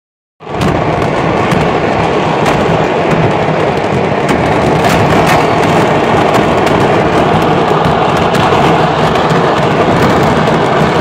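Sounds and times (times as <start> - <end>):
fireworks crackling and banging: 0.4 - 11.0
sharp firework bangs: 0.4 - 11.0.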